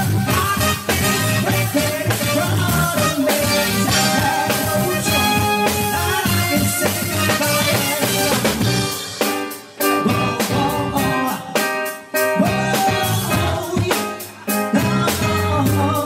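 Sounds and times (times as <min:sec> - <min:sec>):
person singing into a microphone: 0:00.0 - 0:08.6, 0:09.8 - 0:16.0
live pop band playing: 0:00.0 - 0:16.0.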